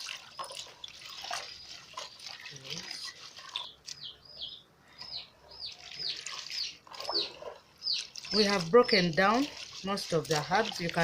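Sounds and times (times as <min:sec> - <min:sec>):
faint water sloshing: 0:00.0 - 0:11.0.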